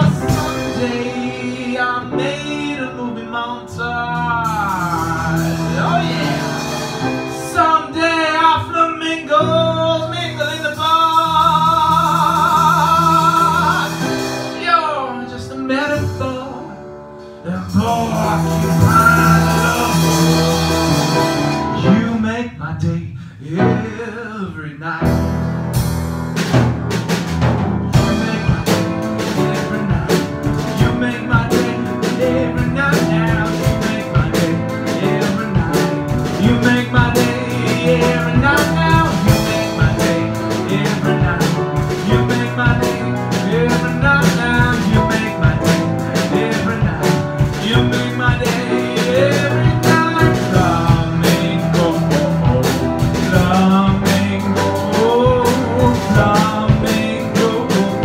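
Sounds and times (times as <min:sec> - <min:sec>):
drum kit: 0:00.0 - 0:23.0, 0:25.0 - 0:58.0
man singing: 0:00.0 - 0:25.5, 0:27.8 - 0:58.0
upright piano: 0:00.0 - 0:58.0.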